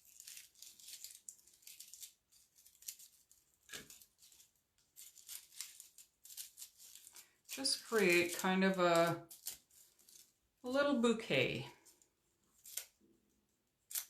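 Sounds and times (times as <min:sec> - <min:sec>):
rustling and crinkling of craft flowers: 0:00.0 - 0:14.0.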